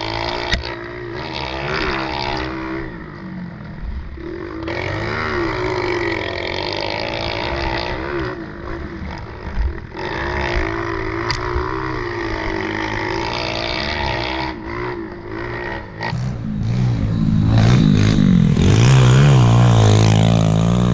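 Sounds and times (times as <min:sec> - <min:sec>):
pit bike engine revving: 0:00.0 - 0:20.9.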